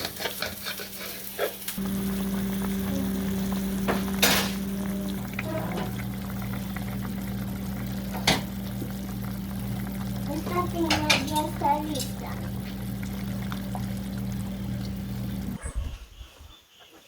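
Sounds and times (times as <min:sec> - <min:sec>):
food sizzling in a pan: 0:00.0 - 0:15.6
low hum: 0:01.8 - 0:15.9.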